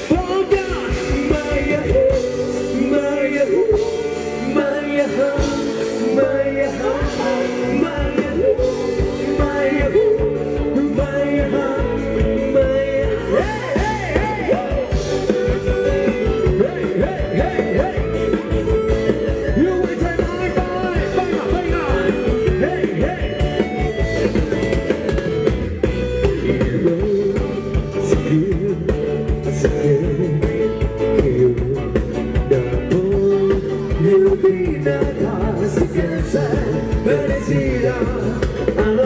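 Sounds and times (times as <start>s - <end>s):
drum beat and bass: 0.0s - 39.0s
person singing: 0.0s - 39.0s.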